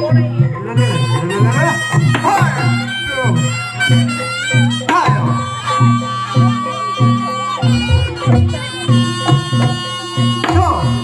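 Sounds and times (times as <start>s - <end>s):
low drum beat: 0.0s - 11.0s.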